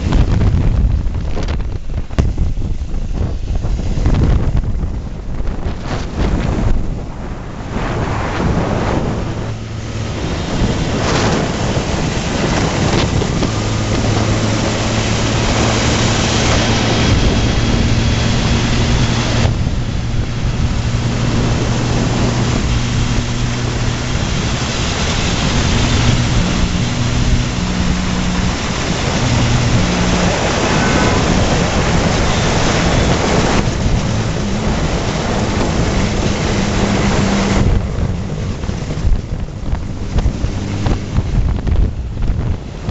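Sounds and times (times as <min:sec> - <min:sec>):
motorcycle engine running: 0:00.0 - 0:42.9
wind noise on microphone: 0:00.0 - 0:42.9.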